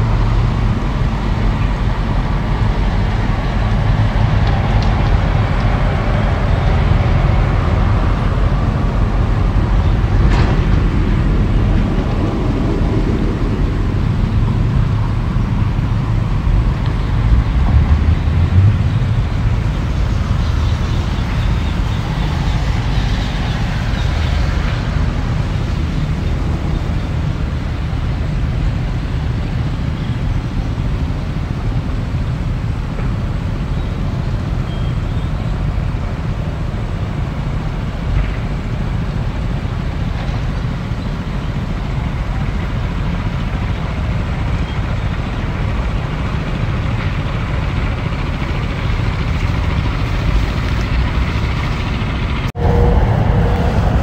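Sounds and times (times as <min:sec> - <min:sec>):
excavator diesel engine rumbling: 0:00.0 - 0:54.0.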